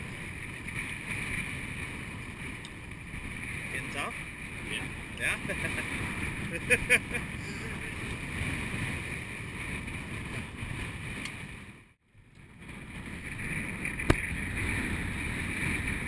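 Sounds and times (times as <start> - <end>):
water and boat noise: 0.0 - 16.0
wind buffeting microphone: 0.0 - 16.0.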